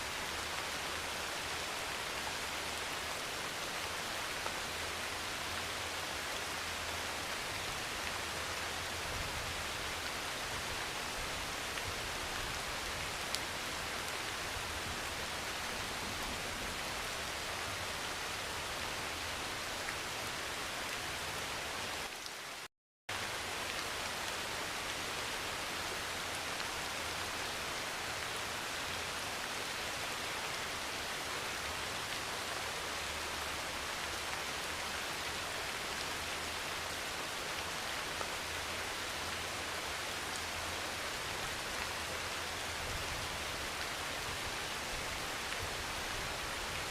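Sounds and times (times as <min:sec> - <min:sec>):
heavy rain on a metal roof: 0:00.0 - 0:46.9.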